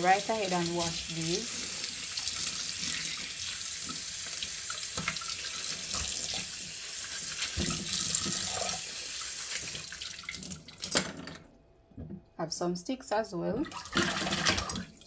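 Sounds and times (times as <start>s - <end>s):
water splashing in saucepan: 0.0s - 11.0s, 13.6s - 15.0s
tap water running into sink: 0.0s - 11.4s, 13.7s - 15.0s.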